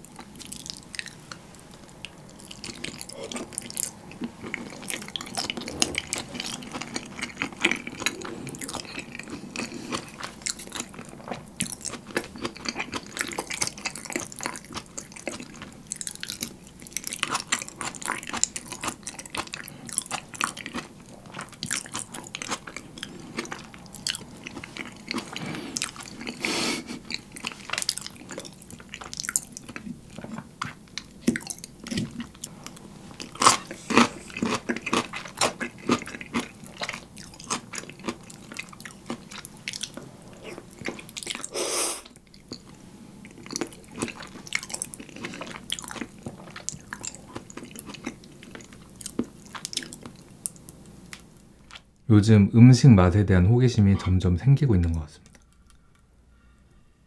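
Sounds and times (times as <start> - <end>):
close chewing: 0.0 - 51.9.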